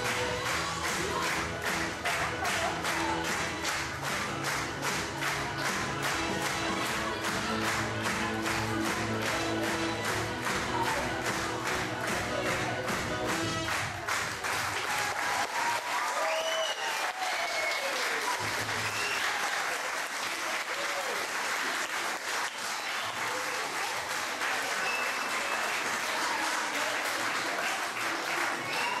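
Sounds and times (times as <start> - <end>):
audience clapping: 0.0 - 29.0.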